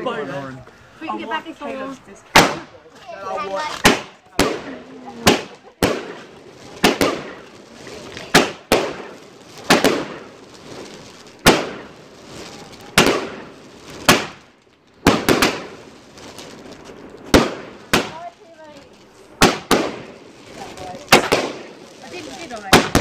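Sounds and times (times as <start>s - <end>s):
firework bangs echoing: 2.3s - 23.0s.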